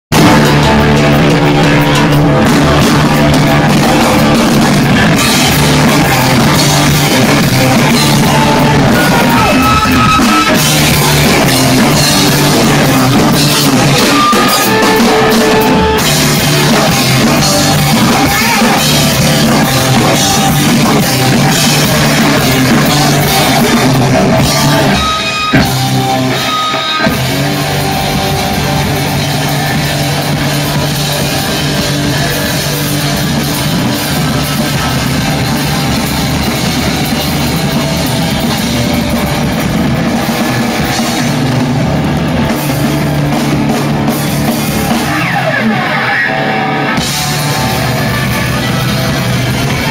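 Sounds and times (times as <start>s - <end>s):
drum kit: 0.0s - 49.9s
electric guitar: 0.1s - 49.9s.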